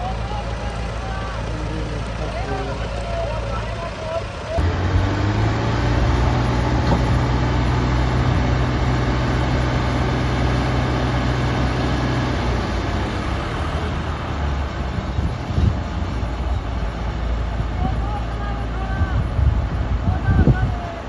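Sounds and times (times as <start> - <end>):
combine harvester engine hum: 0.0 - 21.0
threshing machinery noise: 0.0 - 21.0.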